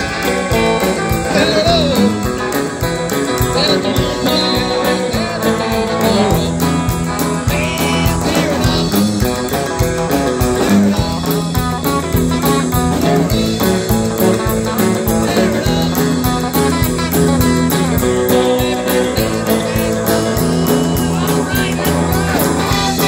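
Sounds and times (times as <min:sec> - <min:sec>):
guitar: 0:00.0 - 0:23.0
live band playing: 0:00.0 - 0:23.0.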